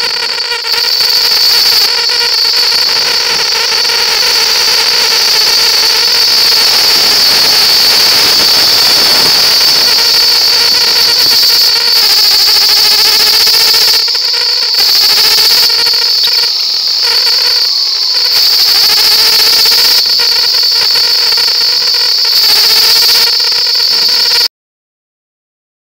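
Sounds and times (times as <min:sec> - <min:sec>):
high whine: 0:00.0 - 0:24.5.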